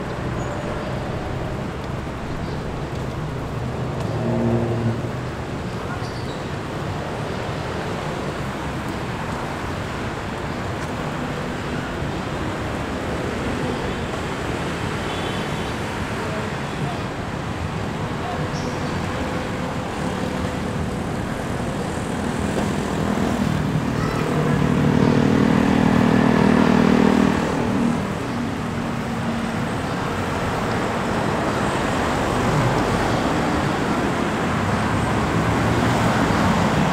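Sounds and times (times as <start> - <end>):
street traffic noise: 0.0 - 36.9.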